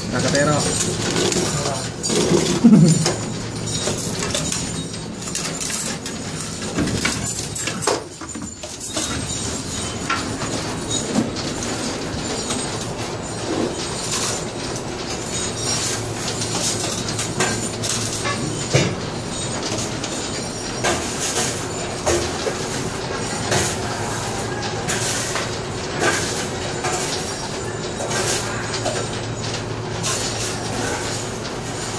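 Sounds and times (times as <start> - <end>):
scrap iron scraping and clattering: 0.3 - 31.9.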